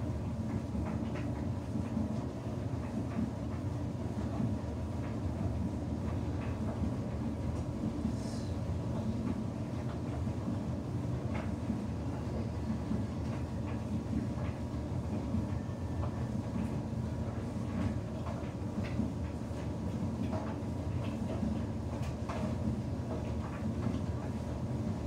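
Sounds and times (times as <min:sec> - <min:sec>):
washing machine drum rumbling: 0:00.0 - 0:25.0.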